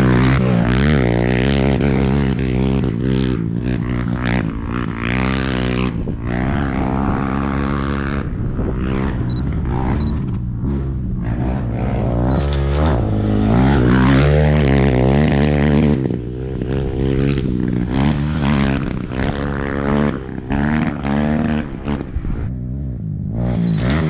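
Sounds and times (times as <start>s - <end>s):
motorcycle and atv engines revving: 0.0s - 24.0s.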